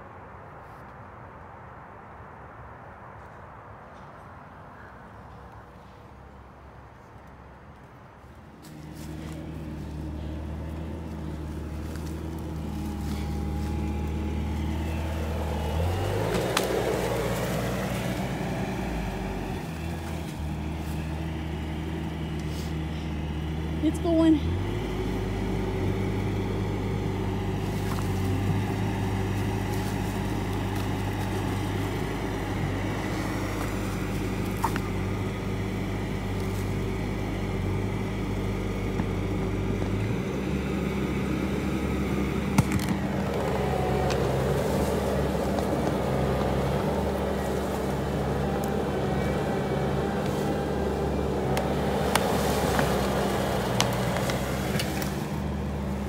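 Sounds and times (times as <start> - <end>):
diesel engine running: 8.4 - 56.0.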